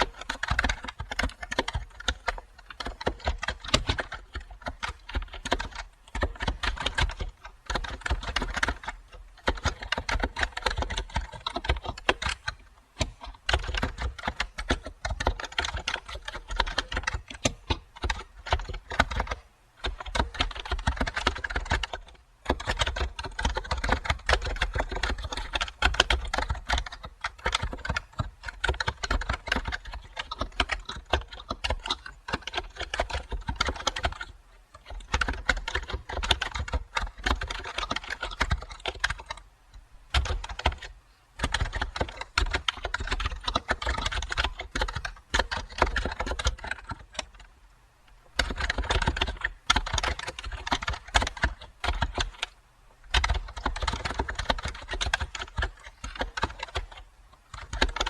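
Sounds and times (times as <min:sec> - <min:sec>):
typing on computer keyboard: 0:00.0 - 0:47.5, 0:48.1 - 0:58.0.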